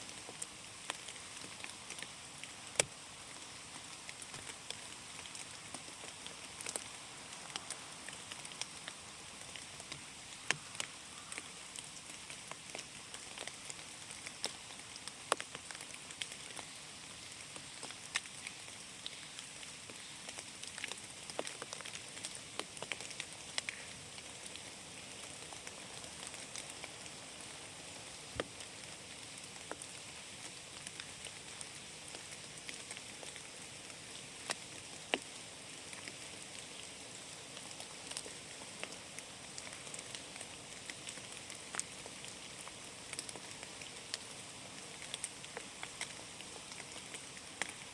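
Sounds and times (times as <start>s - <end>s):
rain hissing on canopy: 0.0s - 47.9s
raindrops ticking on leaves: 0.0s - 47.9s.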